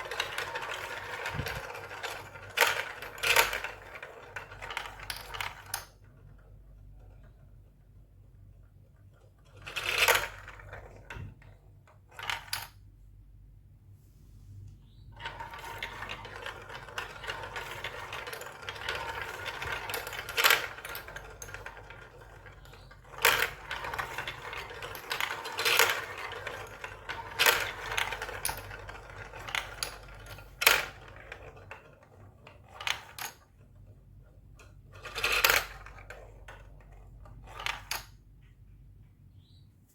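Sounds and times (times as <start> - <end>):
marbles rolling and clattering: 0.0 - 7.8, 9.4 - 11.4, 15.2 - 38.2.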